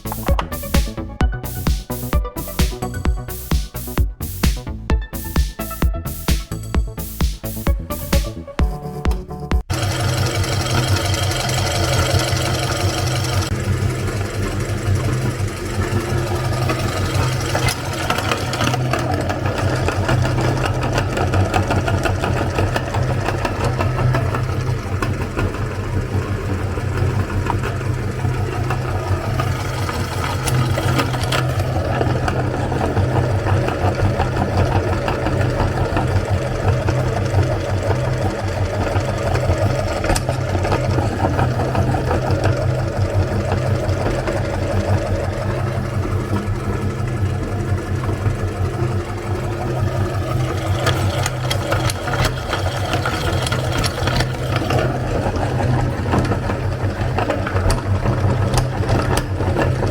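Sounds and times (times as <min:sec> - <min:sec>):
electric meat grinder motor hum: 0:09.0 - 0:59.9.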